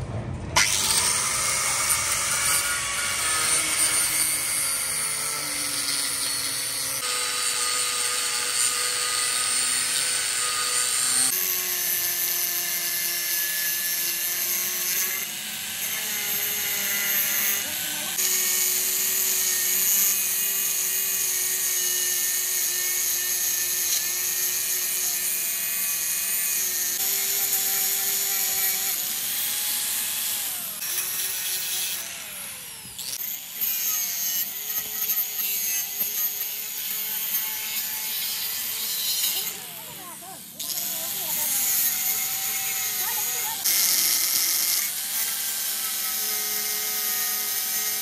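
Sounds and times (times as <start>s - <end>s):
angle grinder grinding steel: 0.6s - 48.0s.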